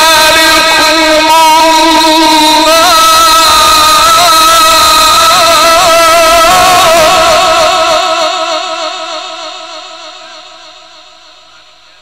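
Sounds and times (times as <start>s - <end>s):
man reciting melismatic chant: 0.0s - 12.0s.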